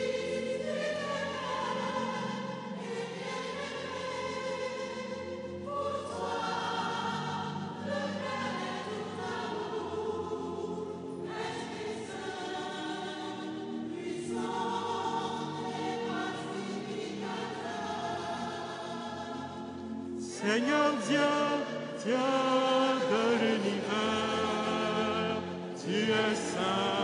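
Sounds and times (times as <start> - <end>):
church choir singing a hymn: 0.0 - 27.0.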